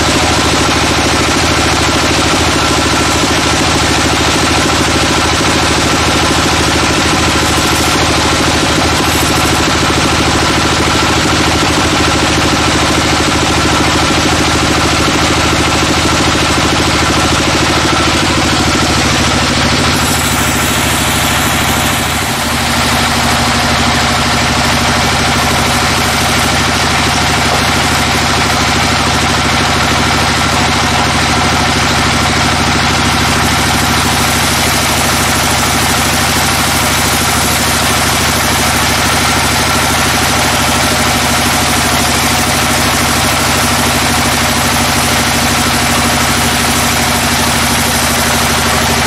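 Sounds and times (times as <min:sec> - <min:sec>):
band saw cutting log: 0:00.0 - 0:49.0.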